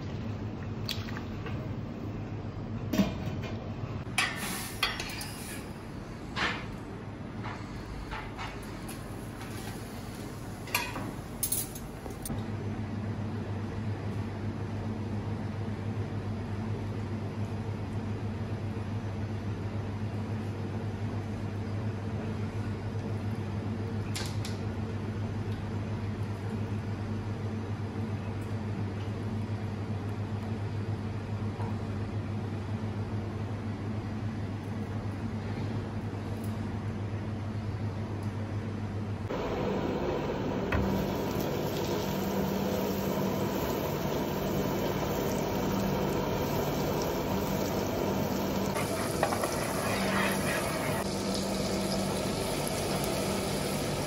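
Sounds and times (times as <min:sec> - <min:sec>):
kitchen machinery hum: 0:00.0 - 0:54.0.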